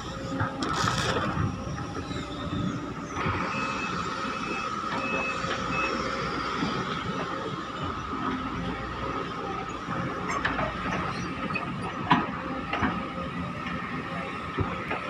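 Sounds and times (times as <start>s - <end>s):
excavator engine whining: 0.0s - 15.0s.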